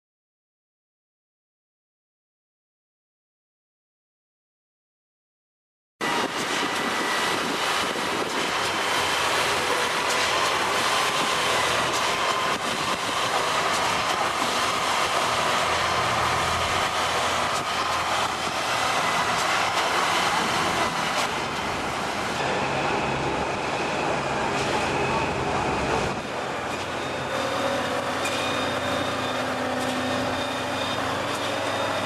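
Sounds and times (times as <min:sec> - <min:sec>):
machinery running: 0:06.0 - 0:32.0.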